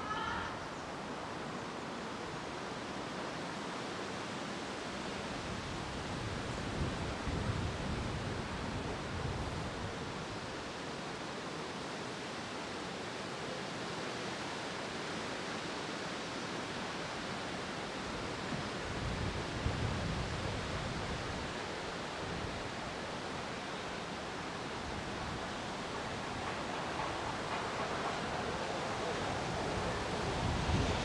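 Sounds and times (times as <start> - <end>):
rustling leaves: 0.0 - 31.0
wind: 0.0 - 31.0.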